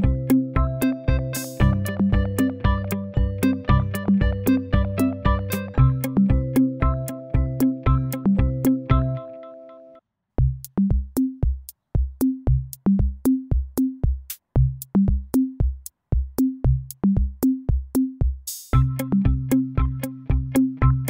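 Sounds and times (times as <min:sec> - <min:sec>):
drum machine beat: 0:00.0 - 0:09.2, 0:10.4 - 0:21.0.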